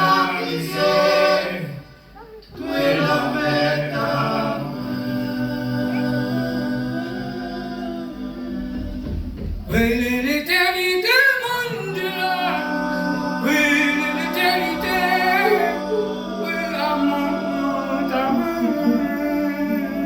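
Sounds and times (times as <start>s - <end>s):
group of people singing: 0.0s - 20.0s.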